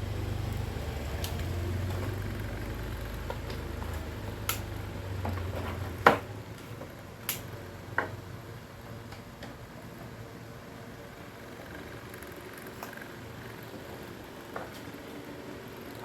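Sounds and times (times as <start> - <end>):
fan parts clicking and knocking: 0.0 - 10.2, 11.7 - 16.0.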